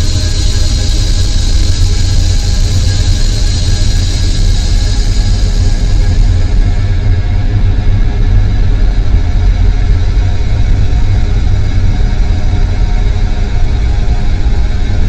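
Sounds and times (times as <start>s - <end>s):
dense bass drone music: 0.0s - 15.0s.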